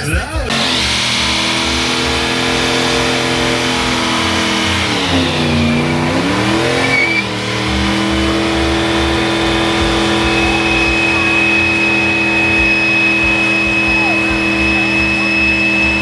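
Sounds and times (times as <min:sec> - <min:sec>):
car engine revving hard: 0:00.5 - 0:16.0.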